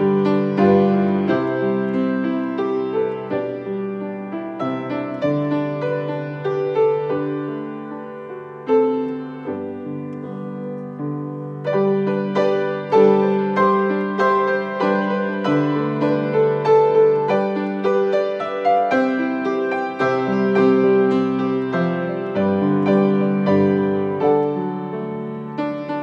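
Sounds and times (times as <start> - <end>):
solo piano playing a hymn: 0.0 - 26.0.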